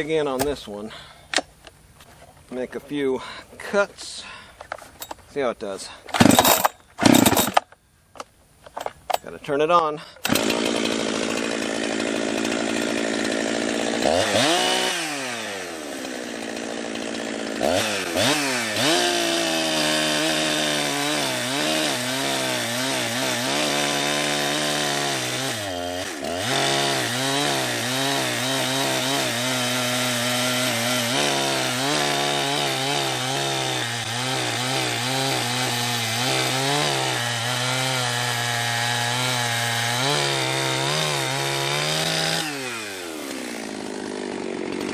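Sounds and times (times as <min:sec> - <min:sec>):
chainsaw revving and idling: 0:06.2 - 0:07.6, 0:10.2 - 0:44.9
chainsaw cutting log: 0:06.2 - 0:07.7, 0:10.2 - 0:44.9.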